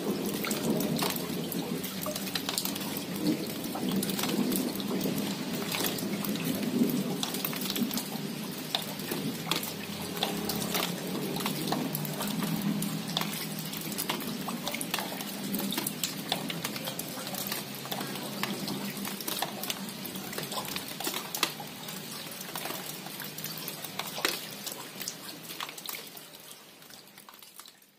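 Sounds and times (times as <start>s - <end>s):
rain falling: 0.0s - 27.9s
raindrops tapping: 0.0s - 27.9s.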